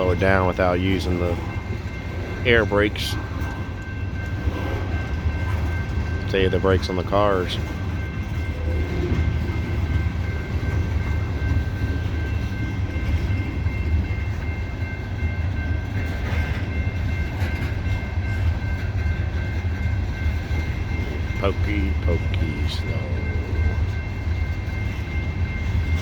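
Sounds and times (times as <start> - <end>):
low rumble of train wheels: 0.0 - 26.0.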